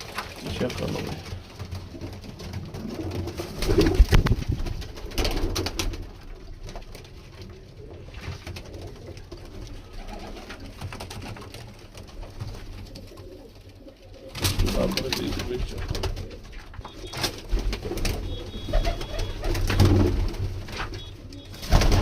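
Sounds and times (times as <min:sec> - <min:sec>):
pigeons cooing: 0:00.1 - 0:22.0.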